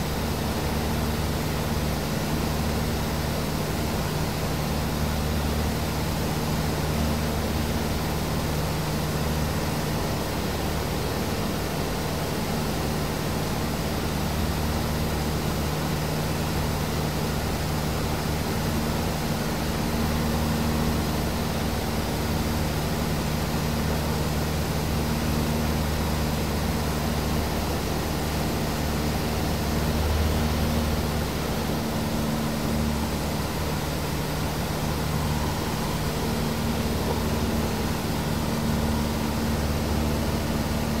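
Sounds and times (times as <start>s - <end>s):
light aircraft engine droning: 0.0s - 41.0s.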